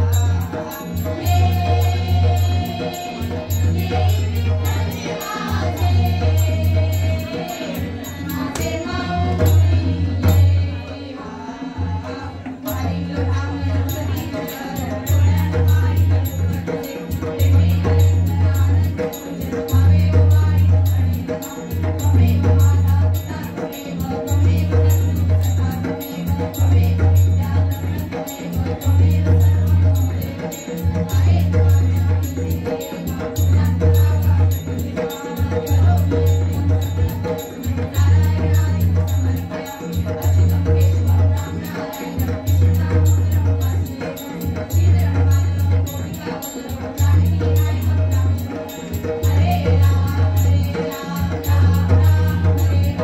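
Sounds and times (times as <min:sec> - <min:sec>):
group singing: 0:00.0 - 0:53.0
harmonium: 0:00.0 - 0:53.0
tabla and barrel drum: 0:00.0 - 0:53.0.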